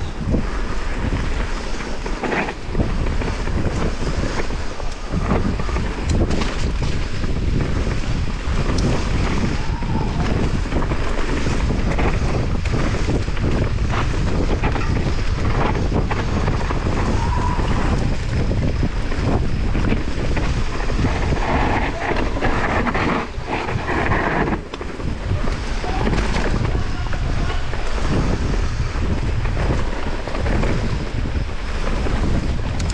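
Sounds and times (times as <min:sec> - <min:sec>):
bike rattling over bumps: 0:00.0 - 0:32.9
tyres rumbling on dirt: 0:00.0 - 0:32.9
wind buffeting microphone: 0:00.0 - 0:32.9.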